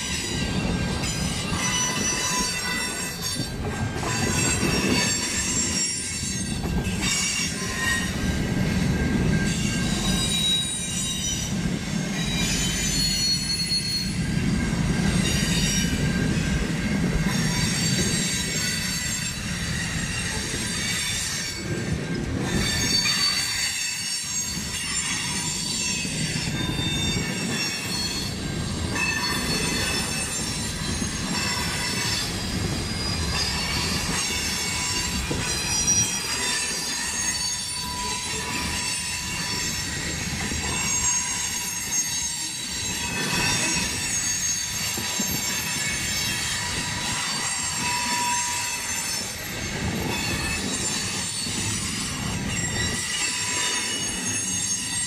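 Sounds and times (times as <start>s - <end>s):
steel wheel squeals: 0.0s - 55.0s
train wheels rumbling on rails: 0.0s - 55.0s.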